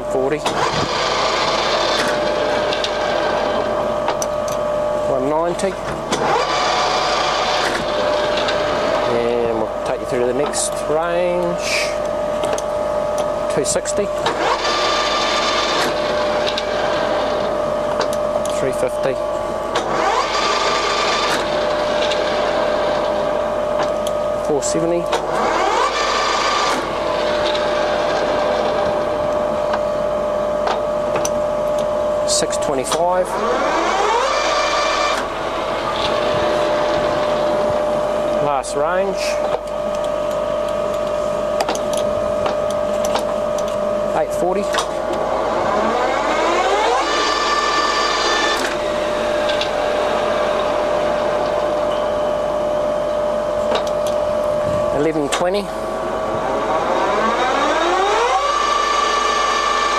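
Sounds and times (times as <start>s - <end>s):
lathe running with steady whine: 0.0s - 59.9s
motor hum: 0.0s - 59.9s.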